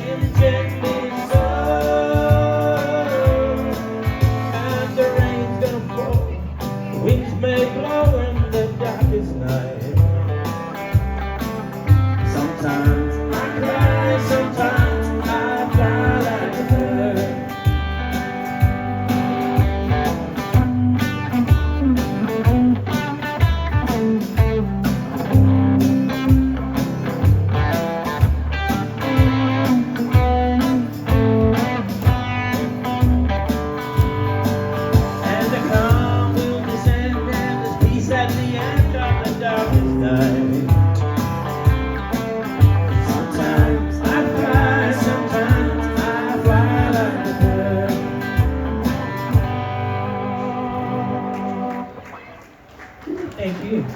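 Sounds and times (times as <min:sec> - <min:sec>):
steady drum beat: 0:00.0 - 0:50.1
guitar lines: 0:00.0 - 0:52.7
bass: 0:00.0 - 0:53.9.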